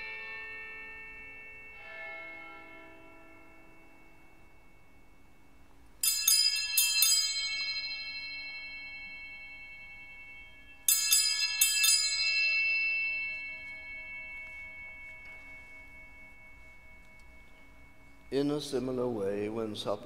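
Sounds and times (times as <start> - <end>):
small altar bells ringing: 0.0 - 20.0.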